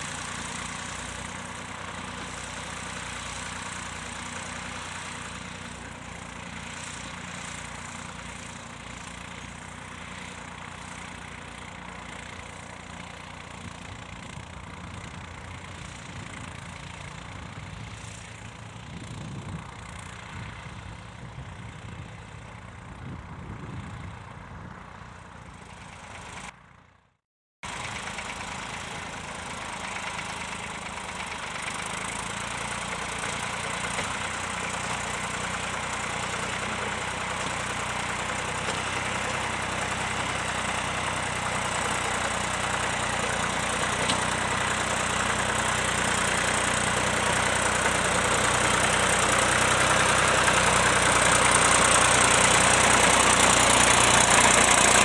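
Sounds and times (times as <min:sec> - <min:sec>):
tractor engine running steadily: 0:00.0 - 0:55.0.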